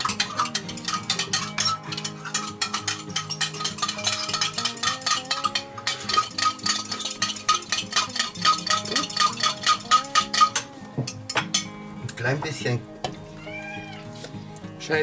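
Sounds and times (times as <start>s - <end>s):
music with percussive beat: 0.0s - 13.3s.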